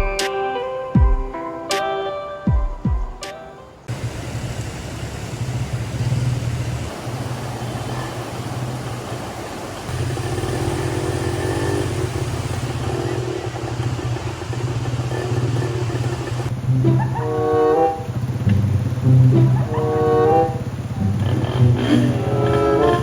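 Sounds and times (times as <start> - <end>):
vehicle drone: 3.7 - 23.0.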